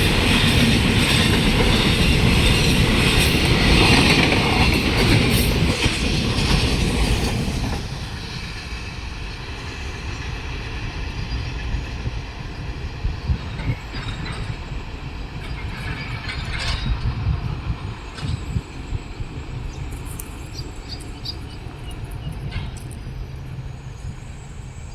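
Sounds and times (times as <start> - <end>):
freight train wheels rumbling: 0.0 - 24.9.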